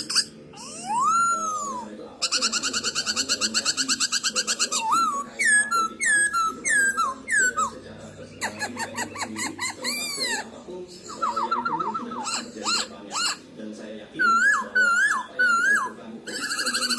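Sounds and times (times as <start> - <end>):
bird singing whistles and chatter: 0.0 - 13.4, 14.2 - 16.9.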